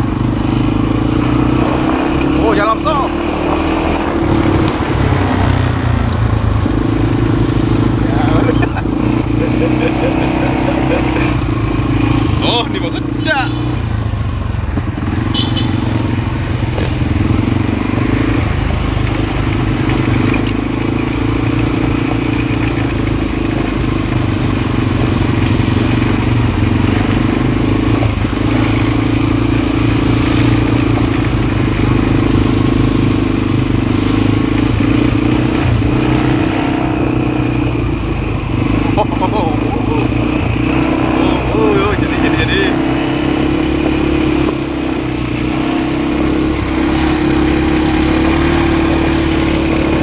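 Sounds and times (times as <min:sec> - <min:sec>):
atv engine running: 0:00.0 - 0:50.0.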